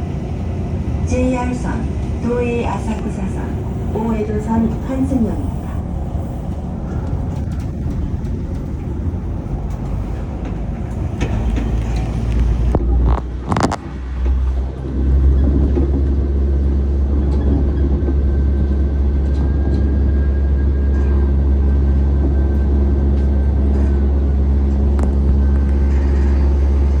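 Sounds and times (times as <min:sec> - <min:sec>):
monorail car hum and rumble: 0:00.0 - 0:27.0.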